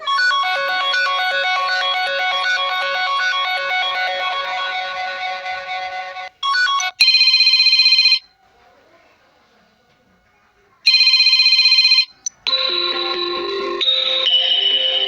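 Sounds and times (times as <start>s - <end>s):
melodic phone ringtone: 0.0s - 8.2s, 10.9s - 15.0s.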